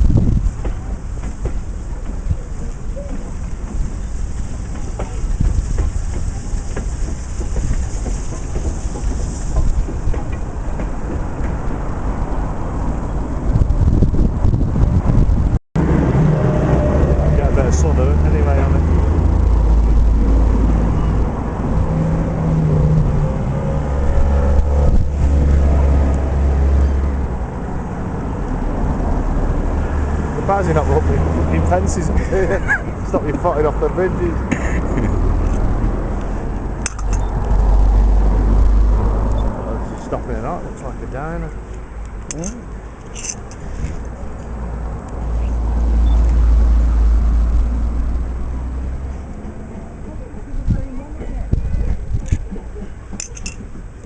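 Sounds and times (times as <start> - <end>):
diesel train engine drone: 0.0 - 54.0.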